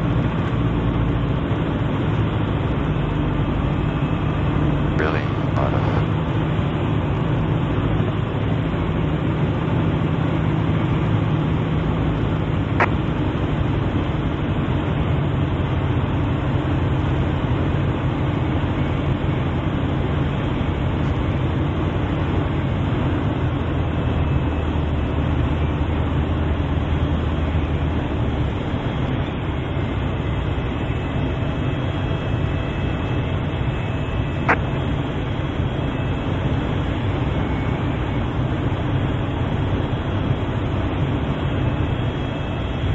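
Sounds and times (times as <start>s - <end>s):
airplane engine and propeller running: 0.0s - 42.9s.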